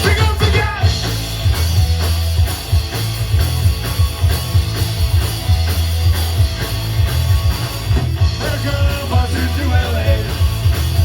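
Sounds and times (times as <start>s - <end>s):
bass guitar: 0.0s - 11.0s
distorted electric guitars: 0.0s - 11.0s
drum kit beat: 0.0s - 11.0s.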